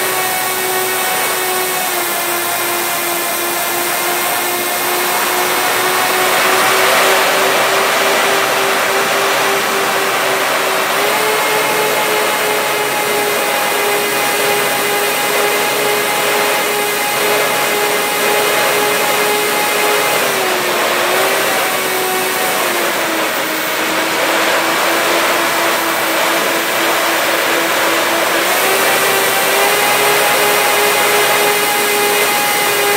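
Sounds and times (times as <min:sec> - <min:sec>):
model aircraft motors whining: 0:00.0 - 0:32.9.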